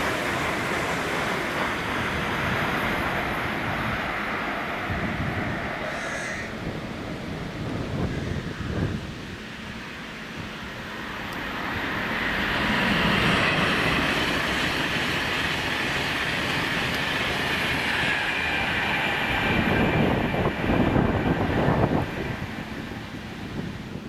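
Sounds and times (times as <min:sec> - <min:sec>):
train wheels rushing on rail: 0:00.0 - 0:24.0
wind buffeting microphone: 0:00.0 - 0:24.0.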